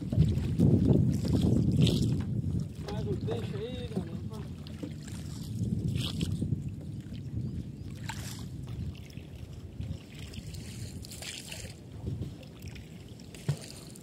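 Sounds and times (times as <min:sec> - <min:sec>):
water lapping against canoe hull: 0:00.0 - 0:14.0
wind rumbling on microphone: 0:00.0 - 0:14.0.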